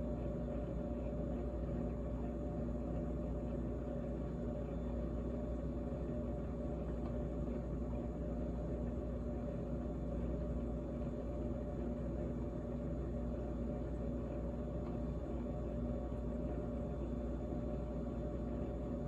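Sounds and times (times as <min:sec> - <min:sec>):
refrigerator humming: 0:00.0 - 0:19.0.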